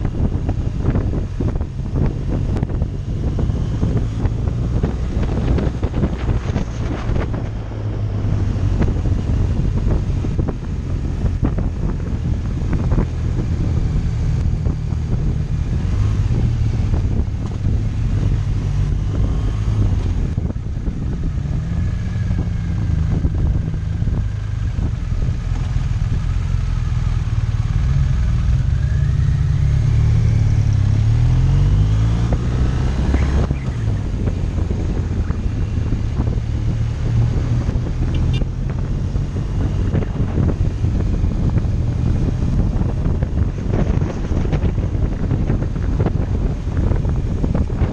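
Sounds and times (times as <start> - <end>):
motorcycle engine running: 0.0 - 47.9
wind buffeting the microphone: 0.0 - 47.9.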